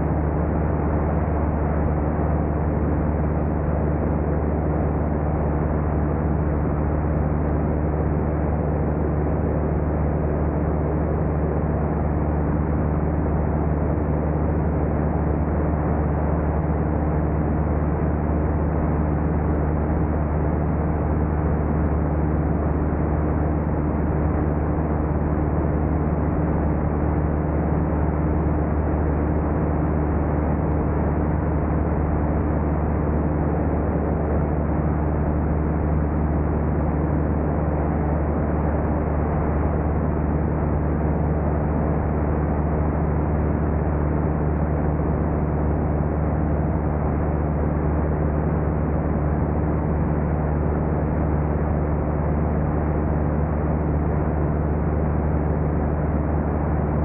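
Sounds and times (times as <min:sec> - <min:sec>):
small airplane engine droning: 0:00.0 - 0:57.0.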